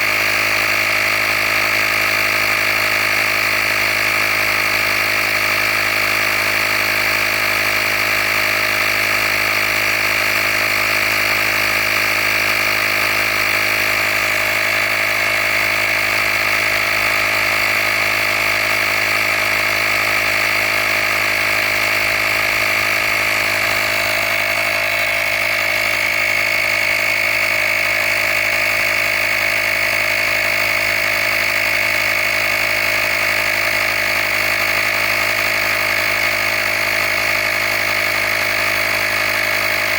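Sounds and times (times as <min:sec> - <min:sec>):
air compressor motor whine: 0:00.0 - 0:39.9.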